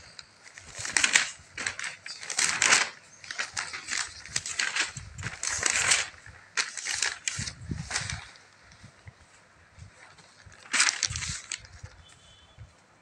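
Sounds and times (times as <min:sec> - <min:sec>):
magazine pages rustling: 0:00.0 - 0:12.0.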